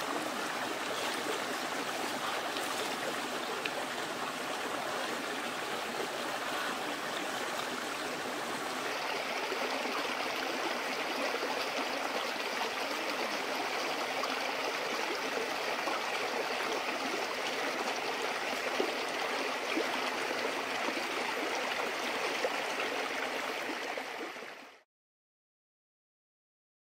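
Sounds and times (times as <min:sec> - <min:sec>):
stream water rushing: 0:00.0 - 0:24.8.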